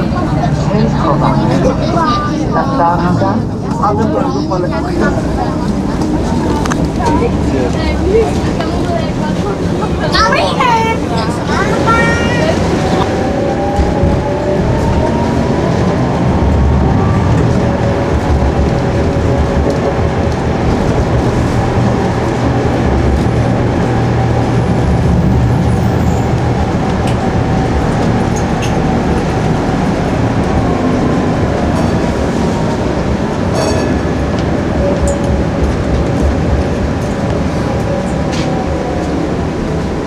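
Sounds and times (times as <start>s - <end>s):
rail car heavy rumble: 0.0s - 40.0s.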